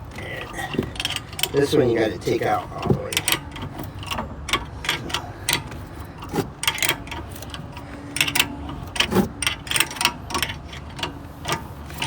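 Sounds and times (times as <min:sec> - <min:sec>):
wrench clicking and clinking: 0:00.2 - 0:12.0.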